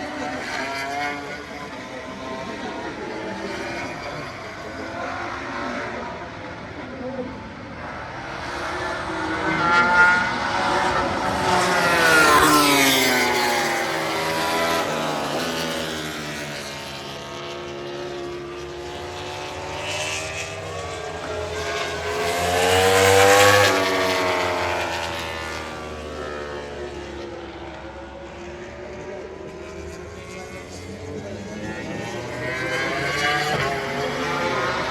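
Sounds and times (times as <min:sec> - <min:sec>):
racing motorcycles passing: 0:00.0 - 0:34.9.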